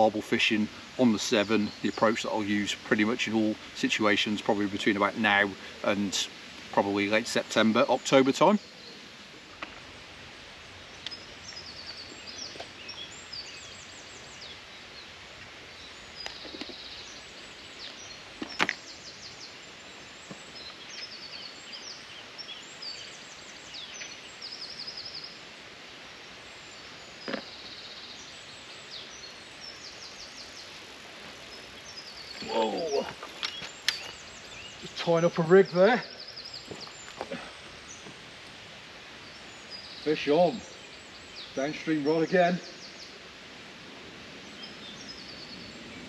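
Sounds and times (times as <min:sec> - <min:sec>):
running water hiss: 0:00.0 - 0:46.0
songbirds chirping: 0:00.0 - 0:46.0.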